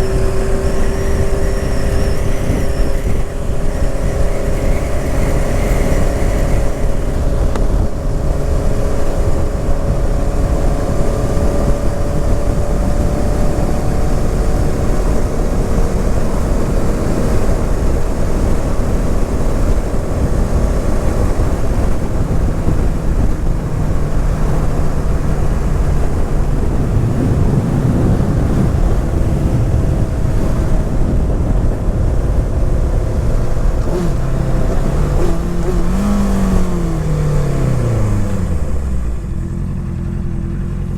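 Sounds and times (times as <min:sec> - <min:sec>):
heavy low rumble: 0:00.0 - 0:40.9
motorcycle engine and exhaust: 0:00.0 - 0:40.9.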